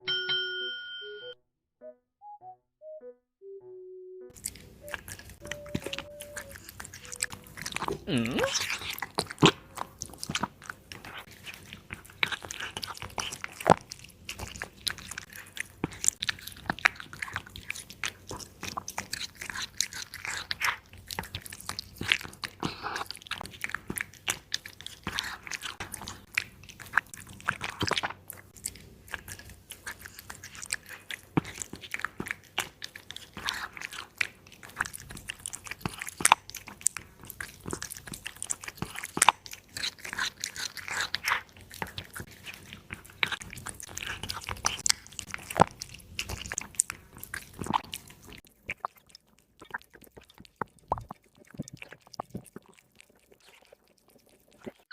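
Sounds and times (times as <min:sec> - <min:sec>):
cat chewing meat: 0:04.4 - 0:54.9.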